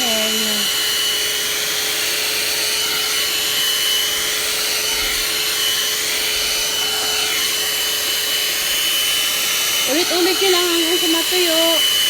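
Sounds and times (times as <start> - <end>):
hair dryer brush blowing air: 0.0 - 12.0
motor hum and whine: 0.0 - 12.0.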